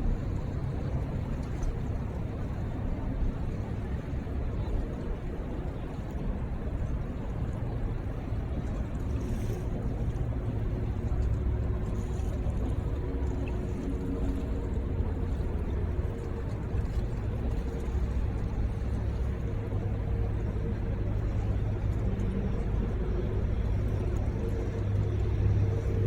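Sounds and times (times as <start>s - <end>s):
city traffic rumble: 0.0s - 26.0s
faint engine hum: 0.0s - 26.0s.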